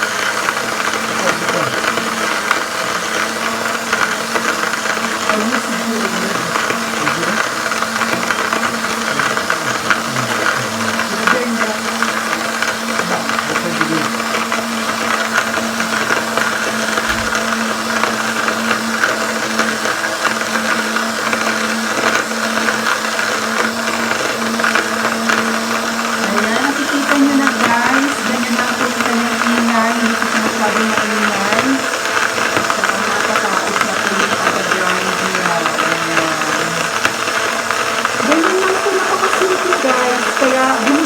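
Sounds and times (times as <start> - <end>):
coffee beans being crushed: 0.0 - 41.0
coffee grinder motor hum: 0.0 - 41.0.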